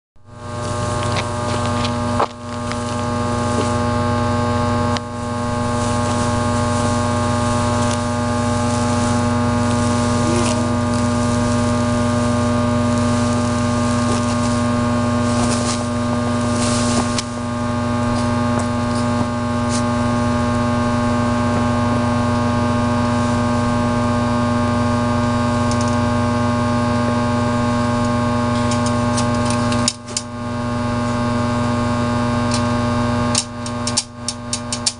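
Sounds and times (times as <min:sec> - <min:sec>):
transformer electrical hum: 0:00.2 - 0:34.9.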